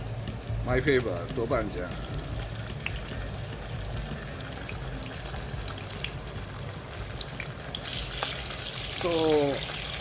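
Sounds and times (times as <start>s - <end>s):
oil sizzling in a pan: 0.0s - 10.0s.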